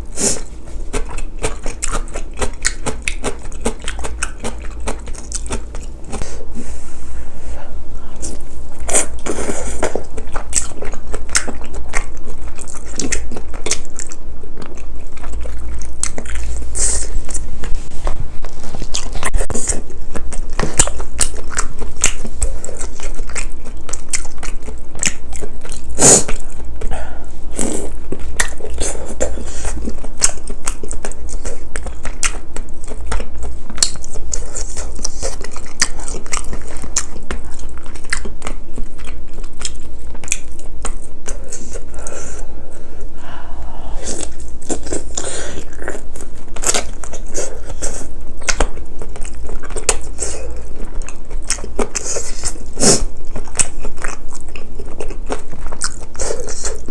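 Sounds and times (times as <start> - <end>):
close-miked chewing and biting: 0.0 - 6.4, 8.1 - 43.2, 43.8 - 56.9
steady low hum: 0.0 - 56.9.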